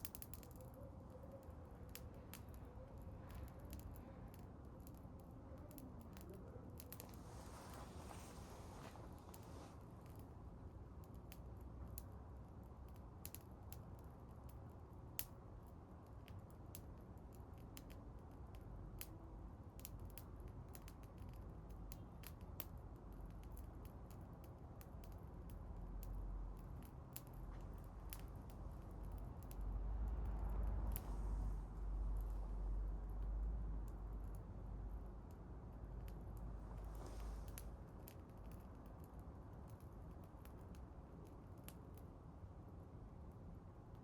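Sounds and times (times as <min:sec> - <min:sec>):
low steady rumble: 0:00.0 - 0:16.1, 0:16.7 - 0:44.0
bonfire crackling and popping: 0:00.0 - 0:31.2, 0:32.1 - 0:42.4.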